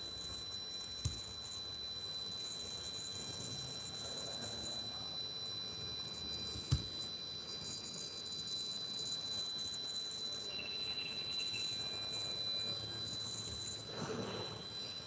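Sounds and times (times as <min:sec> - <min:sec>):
high-pitched whine: 0:00.0 - 0:15.0
soft chirring: 0:00.0 - 0:15.0.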